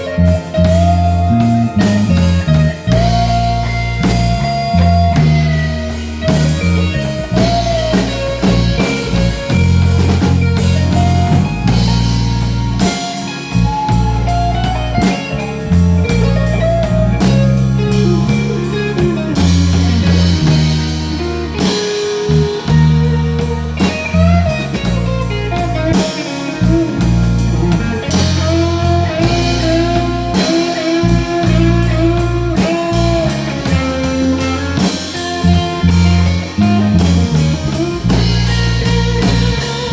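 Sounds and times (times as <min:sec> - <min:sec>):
bass notes: 0:00.0 - 0:39.9
drum beat: 0:00.0 - 0:39.9
lead guitar with bending notes: 0:00.0 - 0:39.9.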